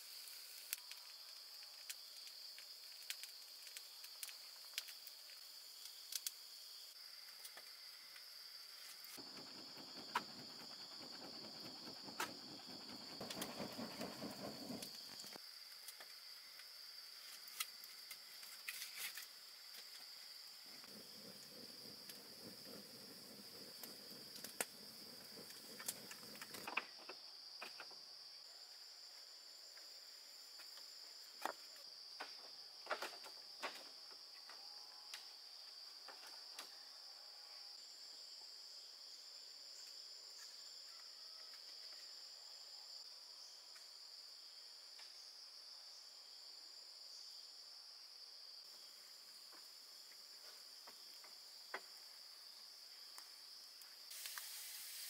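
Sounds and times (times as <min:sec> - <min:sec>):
insect chorus trilling: 0:00.0 - 0:55.0.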